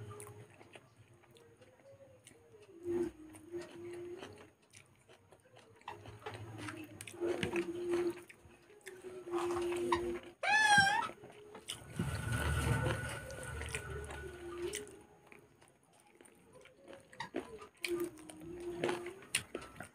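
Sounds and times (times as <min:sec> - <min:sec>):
faint hum: 0:00.0 - 0:04.5, 0:05.7 - 0:10.4, 0:11.2 - 0:15.7, 0:17.4 - 0:19.9
chewing and mouth clicks: 0:00.0 - 0:11.8, 0:14.7 - 0:19.9.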